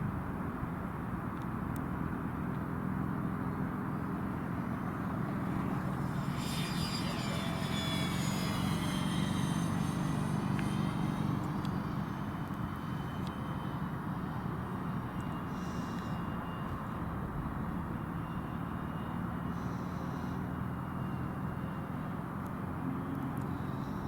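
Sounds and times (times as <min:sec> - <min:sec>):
propeller aircraft whining: 0:00.0 - 0:24.0.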